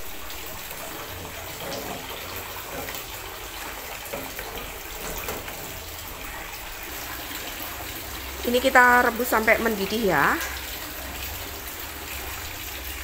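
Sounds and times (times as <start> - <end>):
liquid sloshing in saucepan: 0.0 - 13.0.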